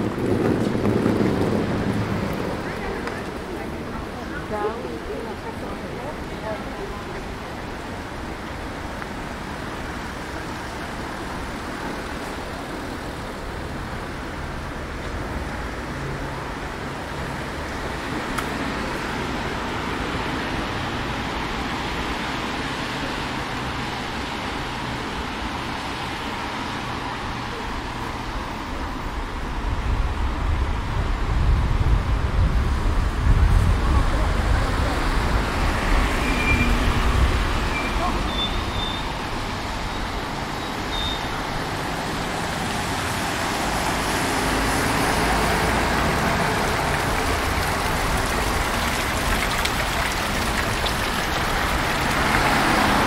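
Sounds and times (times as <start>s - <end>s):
passing cars: 0.0s - 53.0s.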